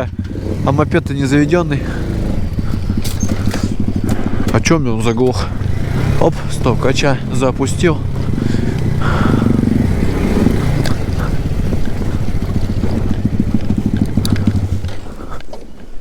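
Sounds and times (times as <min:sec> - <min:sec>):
moped engine running: 0:00.0 - 0:15.9.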